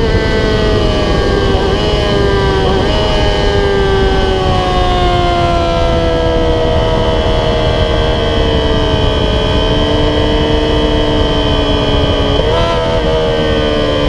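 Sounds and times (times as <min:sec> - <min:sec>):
motorcycle engine at high revs: 0:00.0 - 0:14.0
wind rush: 0:00.0 - 0:14.0.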